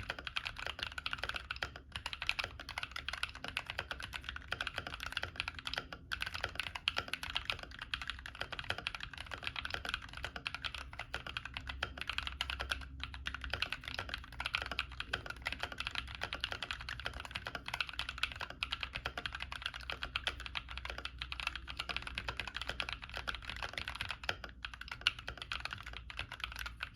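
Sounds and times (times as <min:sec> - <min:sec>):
fast mechanical keyboard typing: 0:00.0 - 0:26.9.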